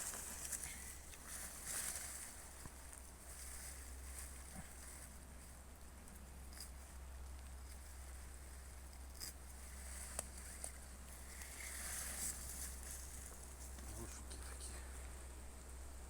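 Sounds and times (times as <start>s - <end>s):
rustling in undergrowth: 0.0s - 15.6s
steady low rumble: 0.0s - 16.0s.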